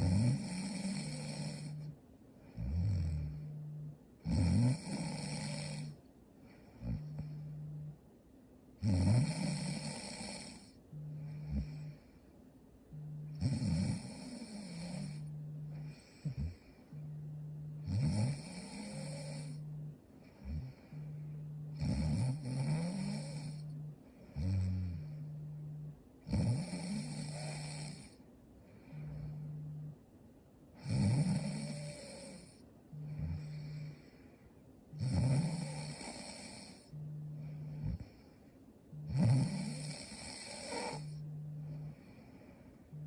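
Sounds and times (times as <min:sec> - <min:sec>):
woman snoring: 0:00.0 - 0:07.9, 0:08.8 - 0:12.2, 0:12.9 - 0:17.1, 0:17.7 - 0:25.4, 0:26.2 - 0:29.8, 0:30.8 - 0:34.2, 0:34.9 - 0:43.0.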